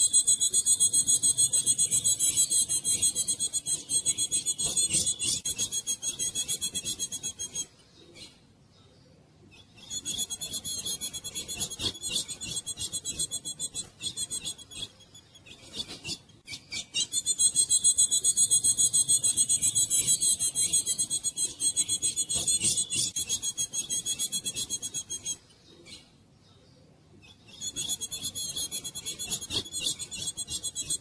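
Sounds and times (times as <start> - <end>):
bird raspy buzzing chatter: 0.0 - 7.7, 9.6 - 26.1, 27.3 - 31.0.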